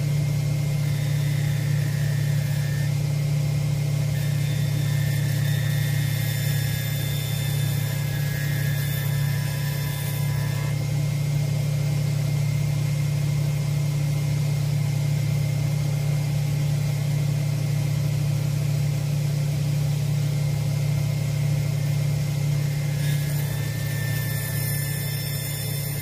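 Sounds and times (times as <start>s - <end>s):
machine motor hum: 0.0s - 26.0s.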